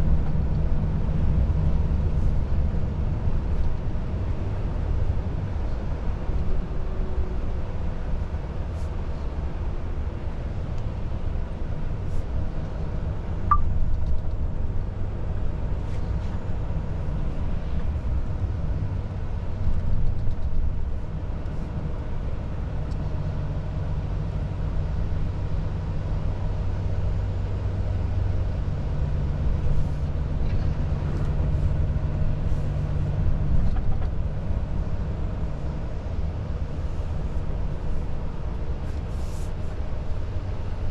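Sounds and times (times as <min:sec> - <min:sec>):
road noise inside cab: 0:00.0 - 0:40.9.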